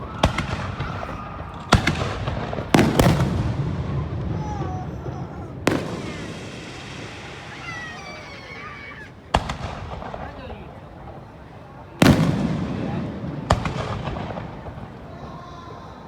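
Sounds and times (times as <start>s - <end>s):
fireworks bursting with rumbling echo: 0.0s - 16.0s.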